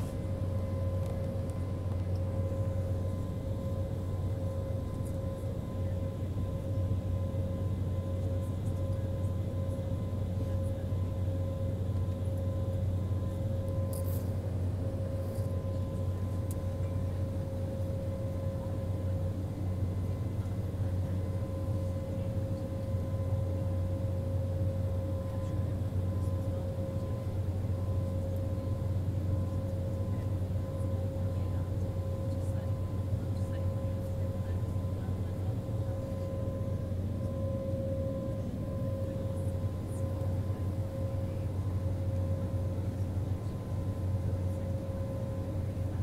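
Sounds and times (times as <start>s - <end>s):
jet engines idling drone: 0.0s - 46.0s
thin steady whine: 0.0s - 46.0s.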